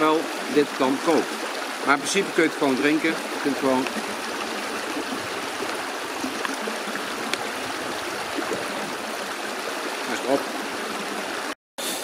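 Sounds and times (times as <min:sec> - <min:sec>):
brook babbling over stones: 0:00.0 - 0:11.6.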